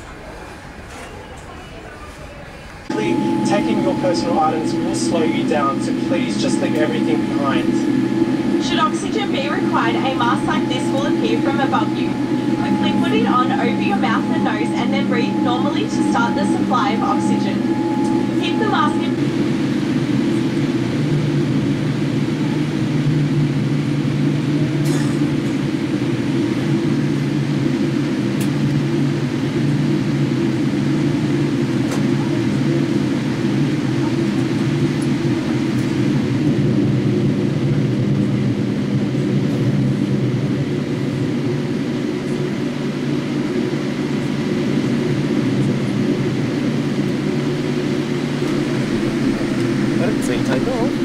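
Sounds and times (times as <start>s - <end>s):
airliner cabin engine rumble: 0.0s - 51.0s.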